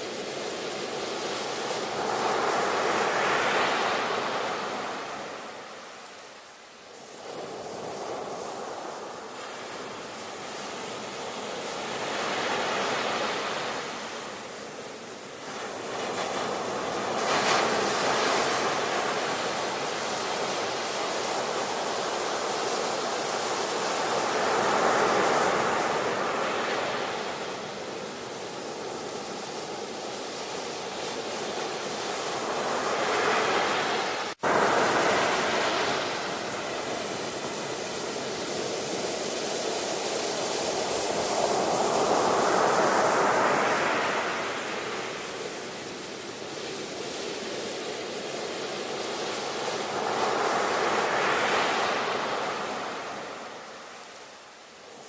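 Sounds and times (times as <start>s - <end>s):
ocean waves roaring: 0.0s - 55.0s.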